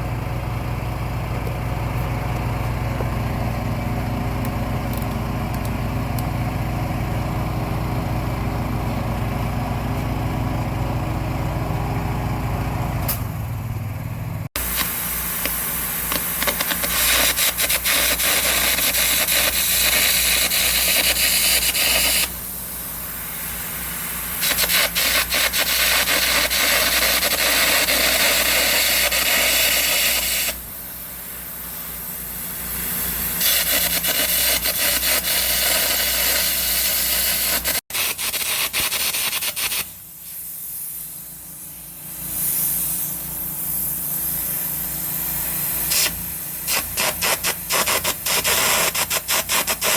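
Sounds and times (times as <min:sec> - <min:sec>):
welder engine humming: 0:00.0 - 0:49.9.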